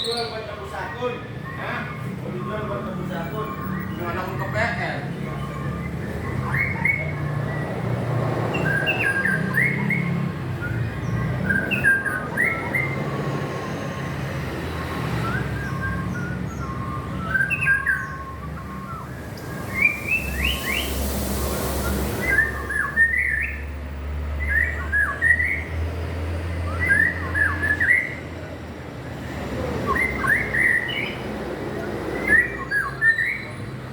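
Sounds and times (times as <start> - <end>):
bird singing whistled phrases: 0.0 - 23.7, 24.4 - 25.7, 26.6 - 28.2, 29.8 - 31.2, 32.2 - 33.7.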